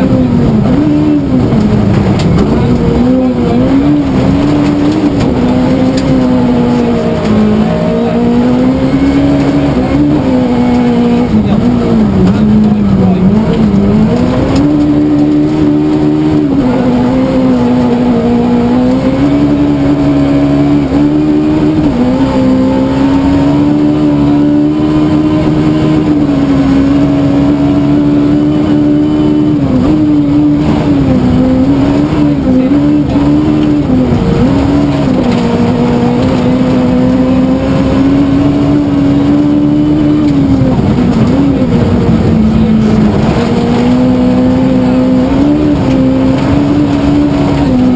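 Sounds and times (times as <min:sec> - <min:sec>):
rally car engine at high revs: 0:00.0 - 0:47.9.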